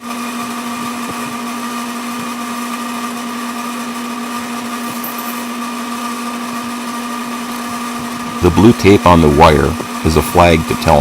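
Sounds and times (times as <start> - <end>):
high steady whine: 0.0 - 11.0
metal lathe humming: 0.0 - 11.0.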